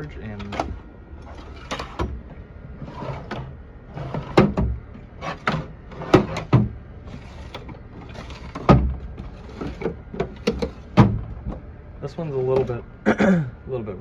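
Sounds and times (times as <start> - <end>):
metal drawer sliding: 0.0 - 12.8.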